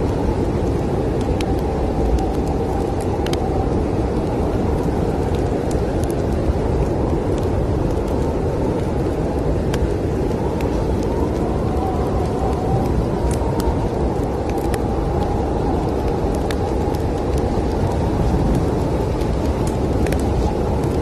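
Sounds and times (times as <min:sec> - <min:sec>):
snowstorm wind: 0:00.0 - 0:21.0
wood fire crackling: 0:00.0 - 0:21.0.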